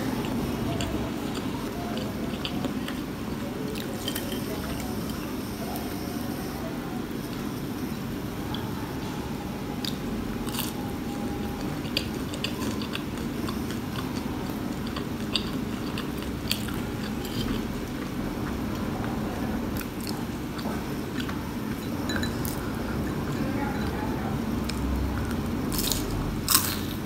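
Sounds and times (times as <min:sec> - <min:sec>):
chewing crispy food: 0:00.0 - 0:27.0.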